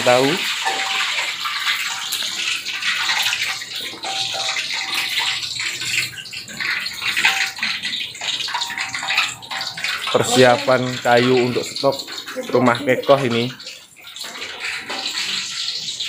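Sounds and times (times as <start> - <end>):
pot bubbling: 0.0 - 16.0.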